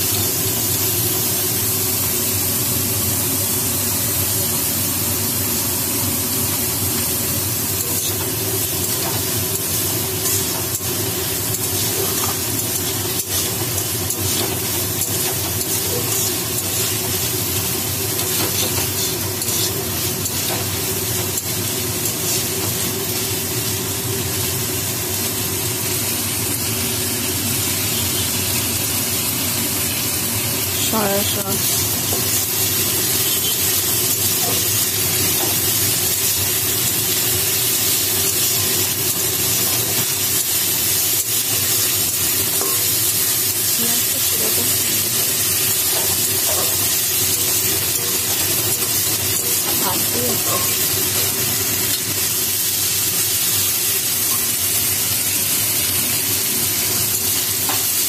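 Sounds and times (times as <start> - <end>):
onions sizzling in hot oil: 0.0 - 58.0.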